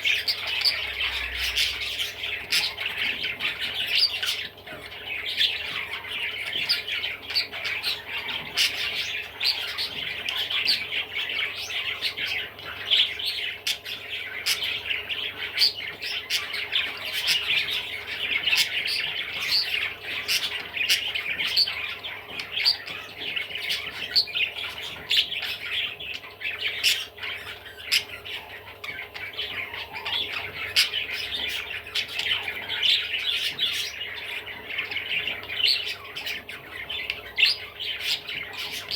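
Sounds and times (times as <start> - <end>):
budgerigar chattering: 0.0 - 38.9.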